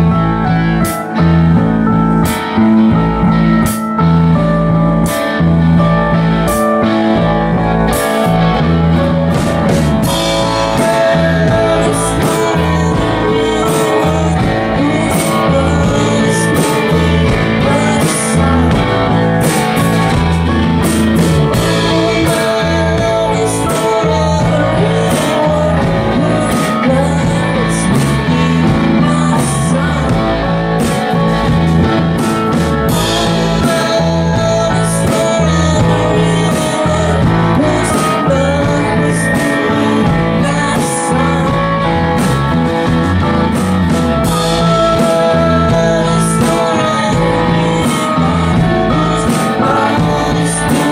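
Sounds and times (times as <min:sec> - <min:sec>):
drum kit: 0:00.0 - 0:50.9
electric bass: 0:00.0 - 0:50.9
keyboard: 0:00.0 - 0:50.9
man singing: 0:06.7 - 0:43.3, 0:44.1 - 0:50.9.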